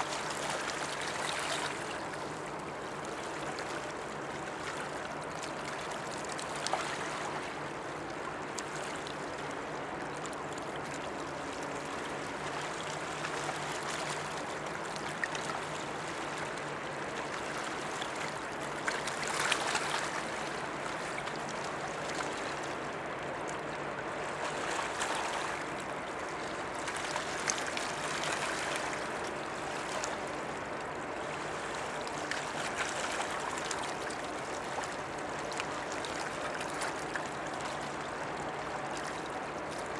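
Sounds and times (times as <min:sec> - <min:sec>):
low steady hum: 0:00.0 - 0:39.9
river water lapping at bank: 0:00.0 - 0:39.9.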